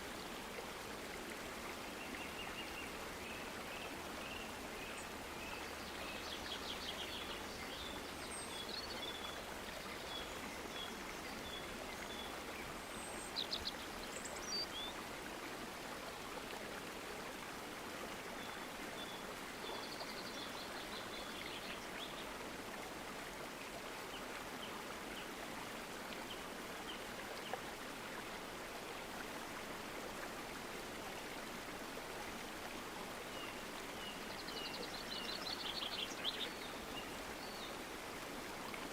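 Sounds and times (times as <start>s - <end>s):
flowing stream: 0.0s - 38.9s.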